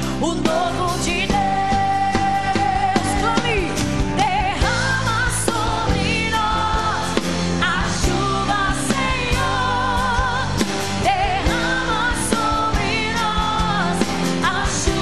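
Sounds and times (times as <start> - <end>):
band with drums: 0.0 - 15.0
women singing: 0.2 - 15.0.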